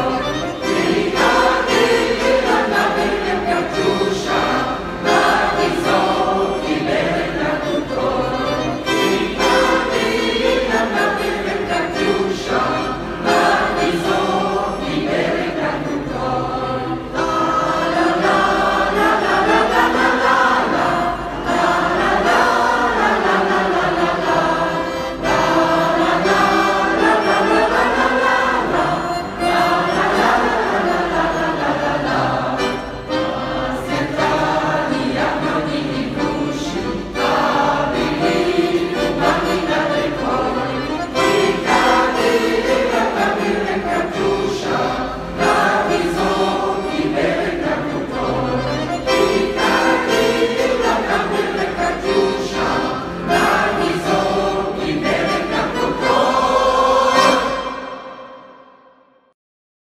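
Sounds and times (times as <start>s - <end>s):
mixed choir singing: 0.0s - 58.8s.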